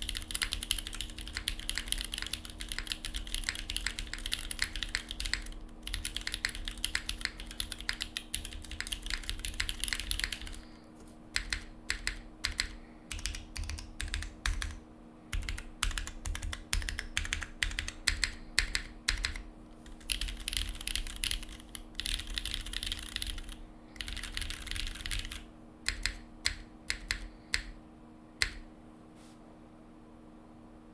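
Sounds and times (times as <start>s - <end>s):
typing on mechanical keyboard: 0.0s - 10.7s, 11.4s - 27.8s, 28.4s - 28.6s.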